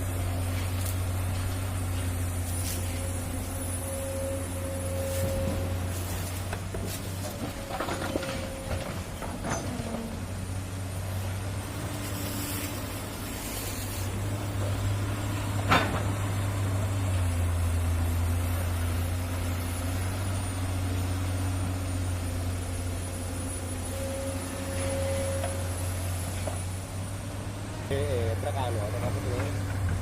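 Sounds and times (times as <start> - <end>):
diesel engines running: 0.0 - 30.0.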